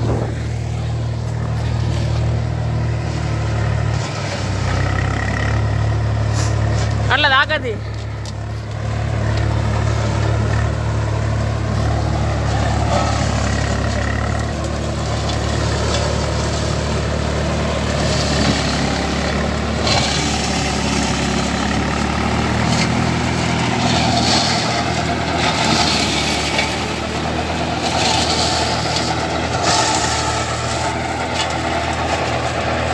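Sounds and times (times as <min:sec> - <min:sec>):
shredder rotor shredding plants: 0:00.0 - 0:32.9
tractor diesel engine running: 0:00.0 - 0:32.9.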